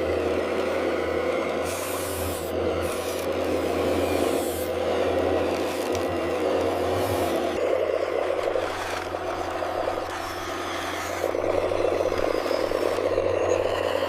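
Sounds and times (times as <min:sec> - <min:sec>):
toy electric motors buzzing and whirring: 0:00.0 - 0:14.0.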